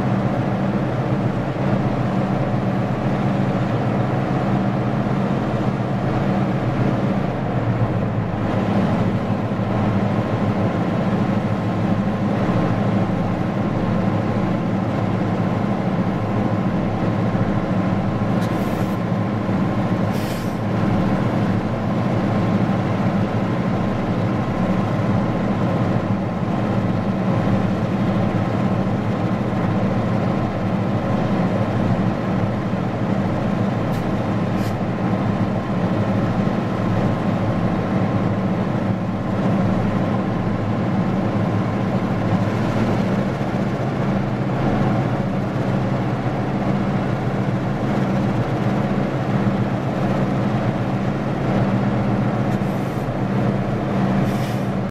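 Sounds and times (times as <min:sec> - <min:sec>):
diesel locomotives droning: 0:00.0 - 0:54.9.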